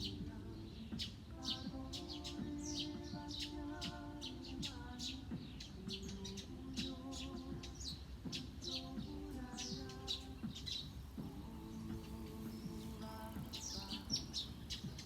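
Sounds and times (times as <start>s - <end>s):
birds chirping and twittering: 0.0s - 15.0s
soft background music: 0.0s - 15.0s.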